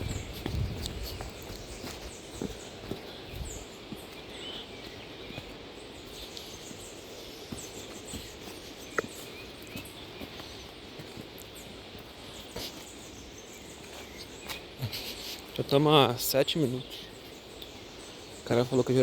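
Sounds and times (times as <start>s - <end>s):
bird chirps: 0.0s - 19.0s
footsteps on forest trail: 0.0s - 19.0s
outdoor ambience: 0.0s - 19.0s.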